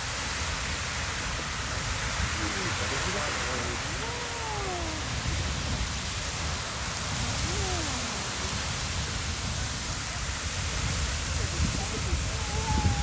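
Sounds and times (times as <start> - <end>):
geyser hissing rush: 0.0 - 13.0.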